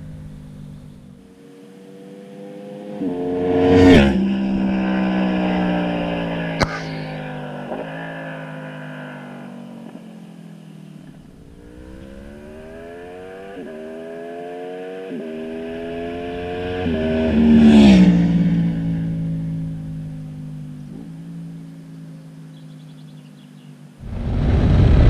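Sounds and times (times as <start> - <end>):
motorcycle engine accelerating past: 0.0 - 23.8.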